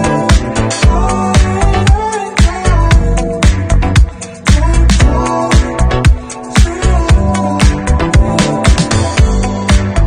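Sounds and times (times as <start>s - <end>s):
funk music with steady beat: 0.0s - 10.0s.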